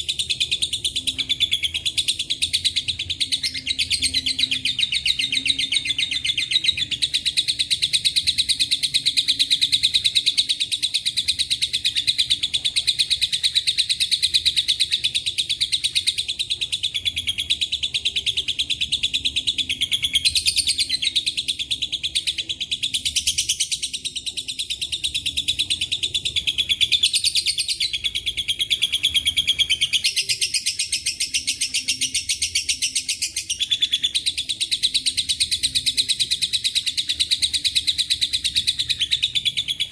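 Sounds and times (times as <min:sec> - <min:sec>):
bird high-pitched chattering trill: 0:00.0 - 0:39.9.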